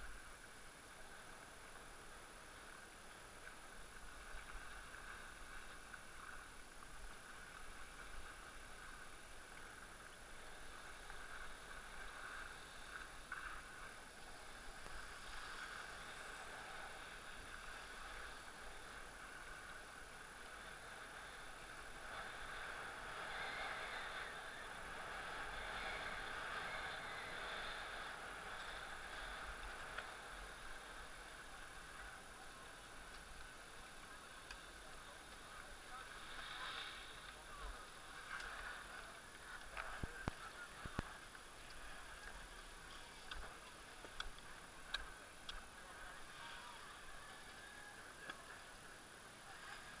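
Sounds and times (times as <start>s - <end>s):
skis sliding over snow: 0.0s - 50.0s.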